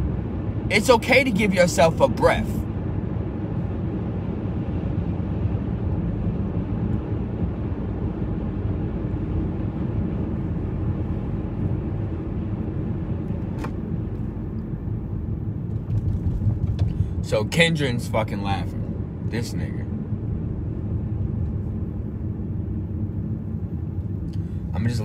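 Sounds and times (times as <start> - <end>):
car engine rumble inside cabin: 0.0 - 25.0.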